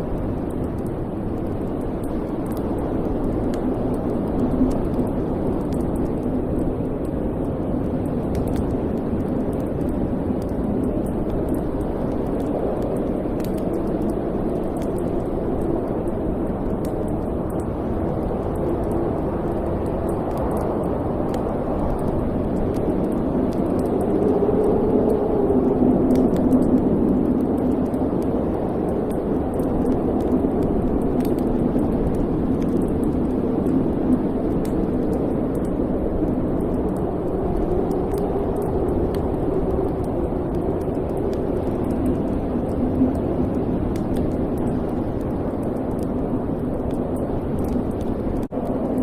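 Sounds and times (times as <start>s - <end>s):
fire crackles and pops: 0.0s - 49.0s.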